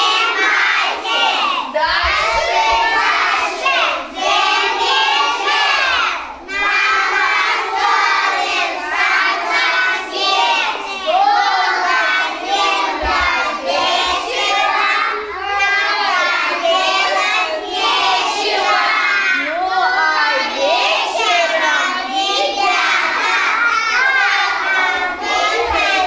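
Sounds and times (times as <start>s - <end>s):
young children singing in chorus: 0.0s - 26.0s.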